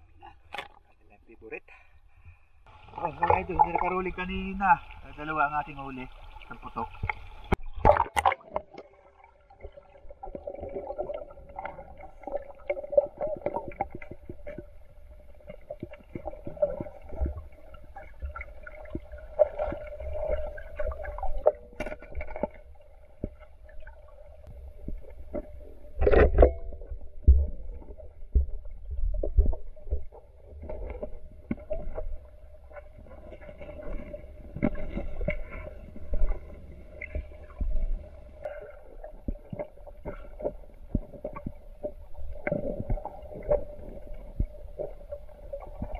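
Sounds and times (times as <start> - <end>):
low underwater rumble: 2.1 - 45.9.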